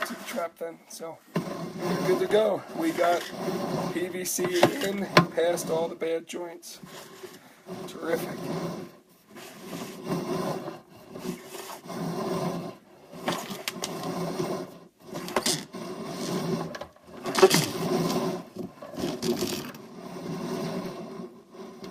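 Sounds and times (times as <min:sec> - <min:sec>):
cable scraping inside pipe: 0:00.0 - 0:21.9.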